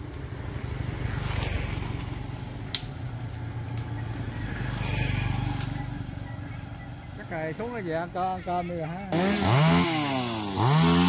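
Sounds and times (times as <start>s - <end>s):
motorbikes passing by: 0.0s - 11.0s.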